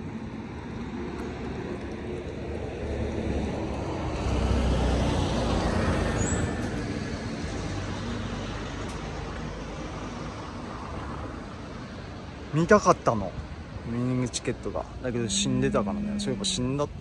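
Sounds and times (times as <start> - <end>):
road vehicle passing by: 0.0 - 12.5, 13.4 - 17.0.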